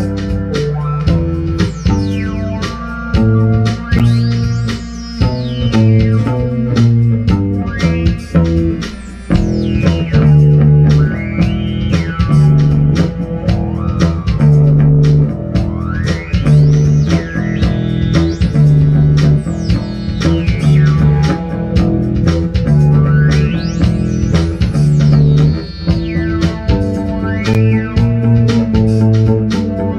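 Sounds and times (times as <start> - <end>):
electric bass line: 0.0 - 29.9
sliding synthesizer notes: 0.0 - 29.9
steady drum beat: 0.0 - 29.9.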